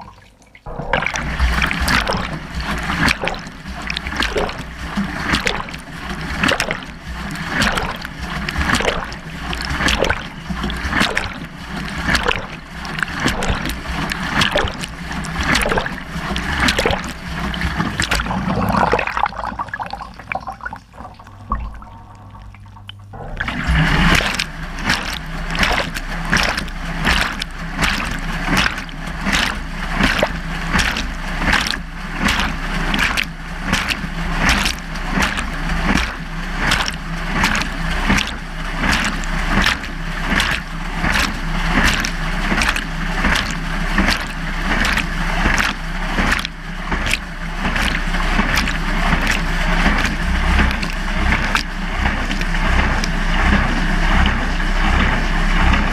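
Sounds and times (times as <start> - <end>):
water sloshing in washing machine: 0.0 - 55.9.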